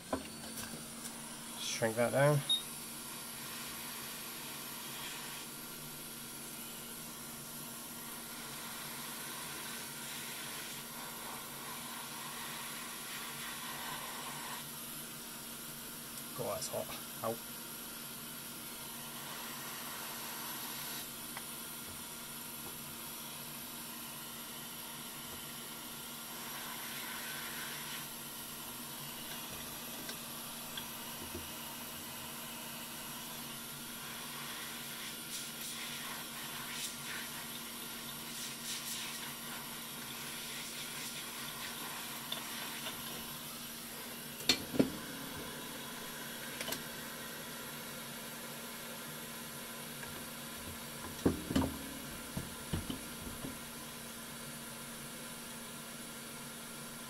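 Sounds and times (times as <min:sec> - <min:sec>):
hot air station hissing: 0:00.1 - 0:15.4, 0:16.2 - 0:53.8.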